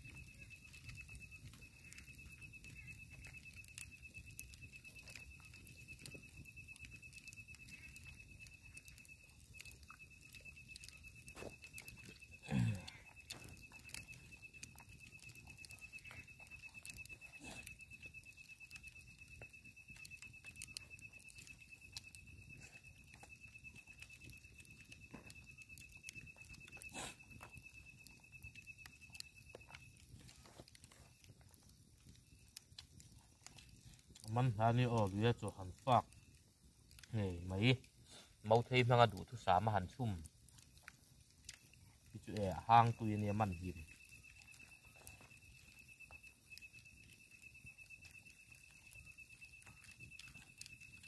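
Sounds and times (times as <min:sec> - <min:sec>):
high insect trill: 0:00.0 - 0:51.0.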